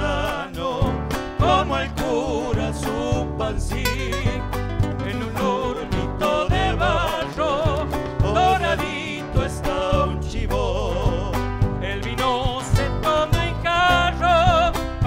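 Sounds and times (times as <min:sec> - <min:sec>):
drum kit: 0:00.0 - 0:15.0
man singing with vibrato: 0:00.0 - 0:15.0
strummed acoustic guitars: 0:00.0 - 0:15.0.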